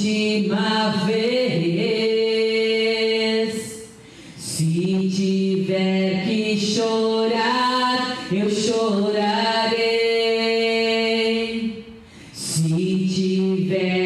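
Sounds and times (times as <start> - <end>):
woman singing unaccompanied: 0.0 - 11.8, 12.4 - 14.0.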